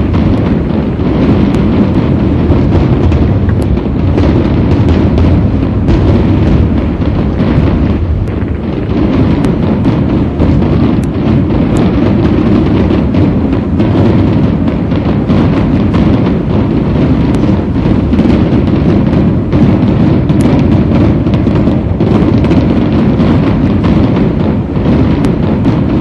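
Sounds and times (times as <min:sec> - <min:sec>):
fireworks bangs and crackles: 0:00.0 - 0:26.0
fireworks whistles: 0:00.0 - 0:26.0.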